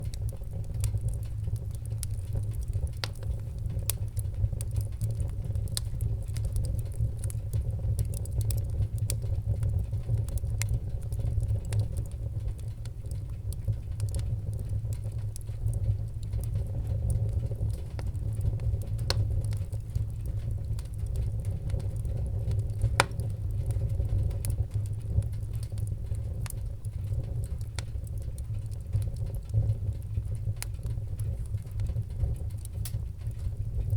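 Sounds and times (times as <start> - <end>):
fire crackling and popping: 0.0 - 33.9
fire rumbling: 0.0 - 33.9.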